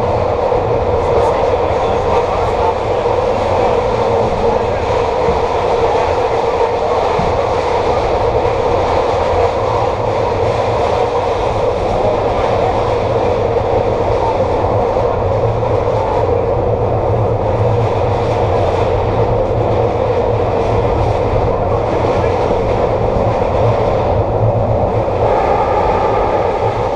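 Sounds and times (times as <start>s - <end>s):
rail vehicle wheels rumbling on track: 0.0s - 26.9s.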